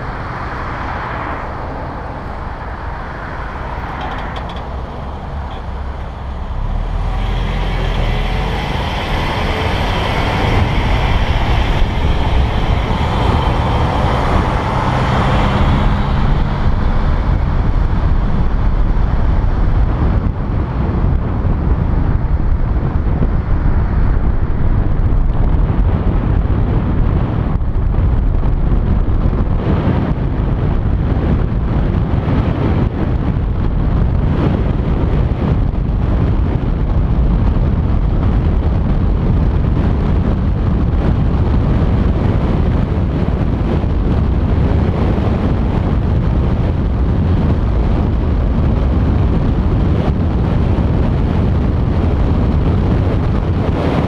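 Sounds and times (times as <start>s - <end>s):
road and tyre noise: 0.0s - 54.0s
wind buffeting microphone: 0.0s - 54.0s.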